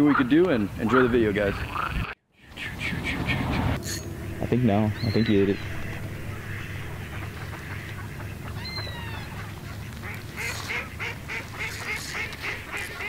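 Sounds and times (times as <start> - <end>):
bird calling: 0.0 - 13.0
steady low rumble: 2.5 - 13.0.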